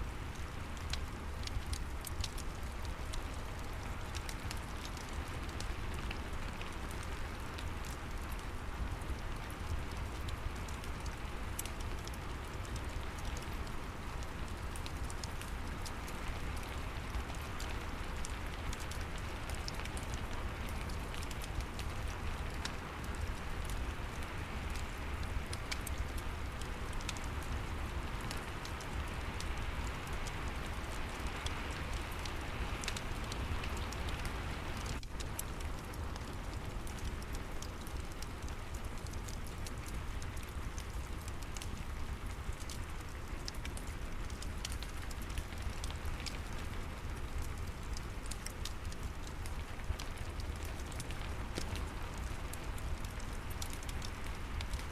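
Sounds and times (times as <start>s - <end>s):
rain hiss: 0.0s - 54.9s
wood fire crackling: 0.0s - 54.9s.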